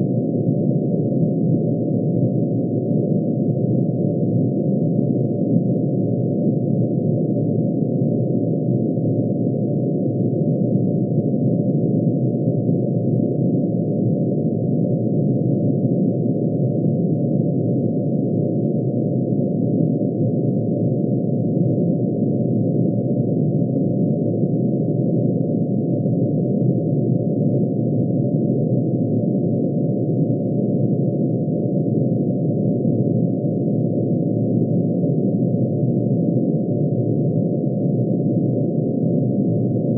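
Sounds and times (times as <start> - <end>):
low synthesized sine tone drone: 0.0 - 39.9.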